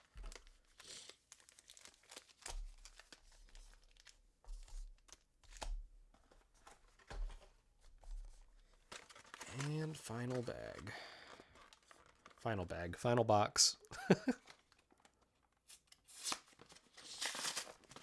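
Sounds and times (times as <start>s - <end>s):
packaging crinkling and rustling: 0.0s - 7.6s, 8.2s - 12.4s, 14.3s - 18.0s.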